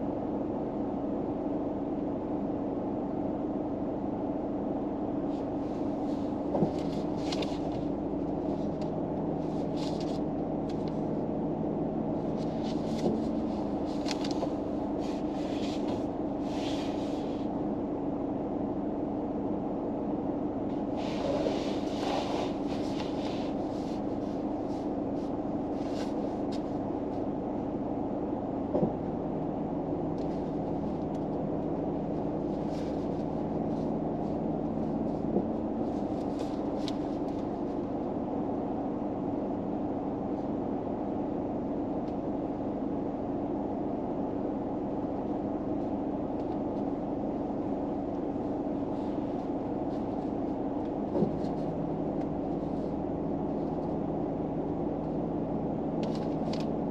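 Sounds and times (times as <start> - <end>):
low hum in car cabin: 0.0 - 56.9.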